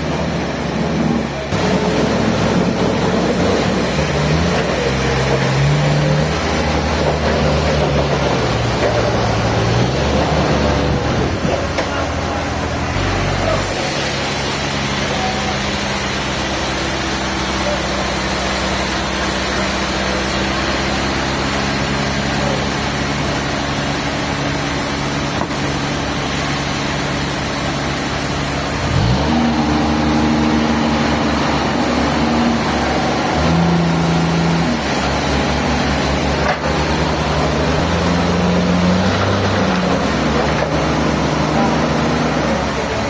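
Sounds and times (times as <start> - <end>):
engine revving under load: 0.0 - 43.0.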